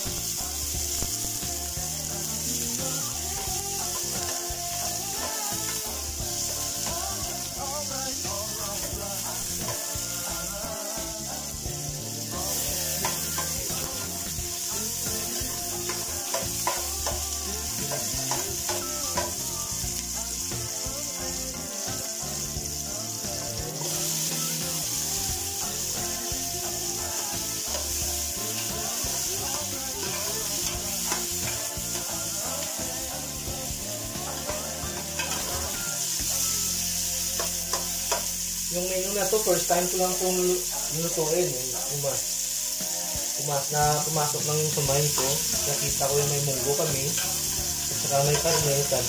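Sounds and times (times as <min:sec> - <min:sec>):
food sizzling in hot oil: 0:00.0 - 0:49.0.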